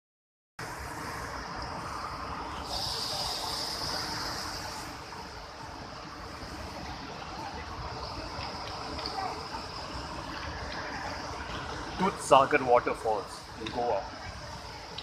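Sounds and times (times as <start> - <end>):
high steady hiss: 0.6 - 15.0
waterfall roaring: 0.7 - 15.0.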